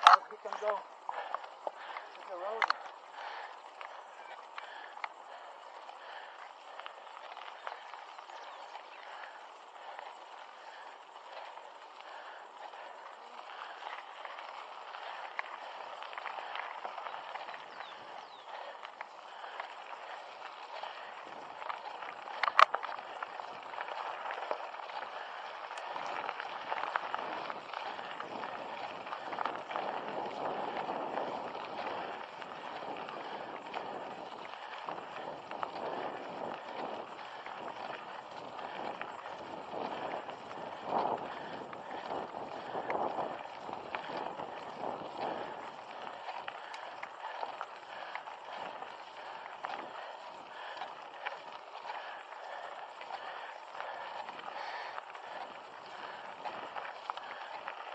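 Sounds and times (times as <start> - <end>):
bike rattling and knocking: 0.0 - 57.9
tyres crunching on dirt: 0.0 - 57.9.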